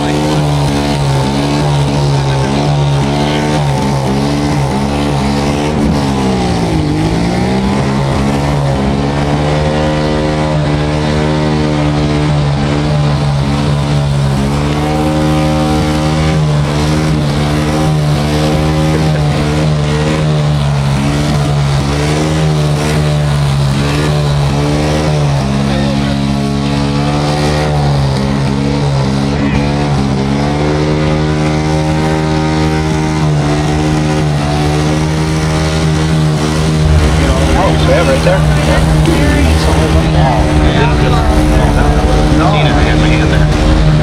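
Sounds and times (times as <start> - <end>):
motorcycle engine revving high: 0.0 - 44.0.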